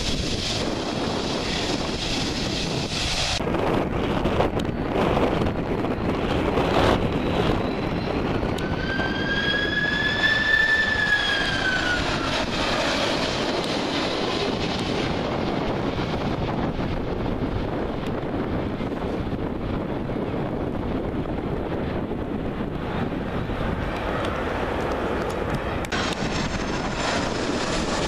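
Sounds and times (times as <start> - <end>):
jet airliner passing overhead: 0.0 - 28.0.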